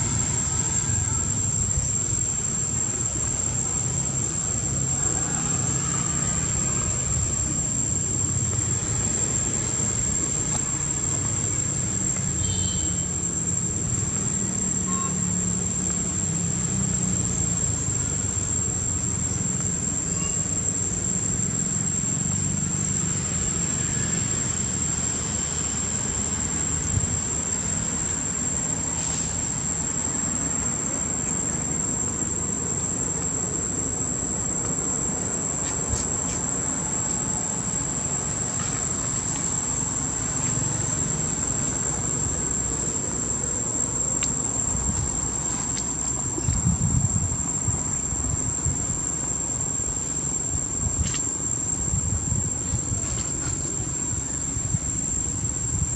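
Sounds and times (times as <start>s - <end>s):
insects droning: 0.0s - 55.9s.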